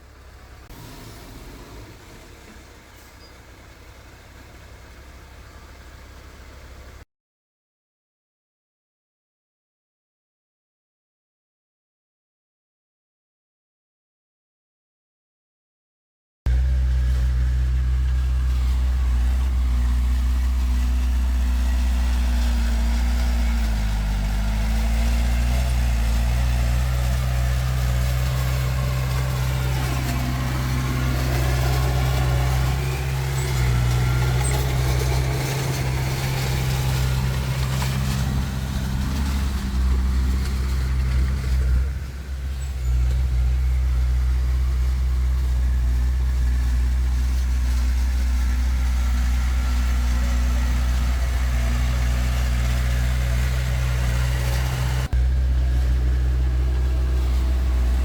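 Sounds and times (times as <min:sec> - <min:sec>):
heavy diesel engine running: 0:00.0 - 0:07.0, 0:16.5 - 0:58.0.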